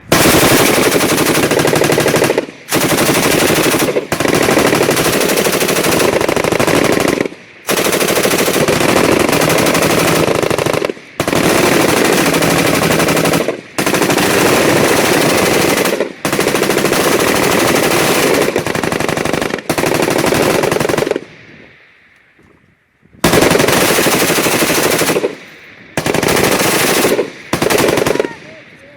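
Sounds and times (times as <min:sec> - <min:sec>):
machine gun firing bursts: 0:00.0 - 0:21.3, 0:23.2 - 0:28.5.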